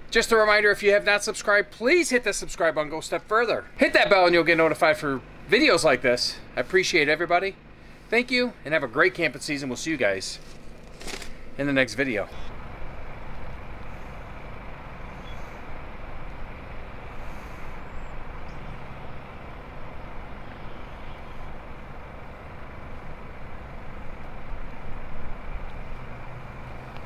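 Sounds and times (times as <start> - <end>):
outdoor background rumble: 0.0 - 27.0.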